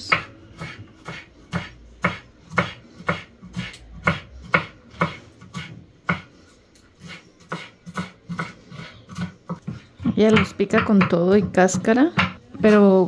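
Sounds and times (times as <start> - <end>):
knife chopping on wooden board: 0.1 - 6.3, 7.0 - 12.8.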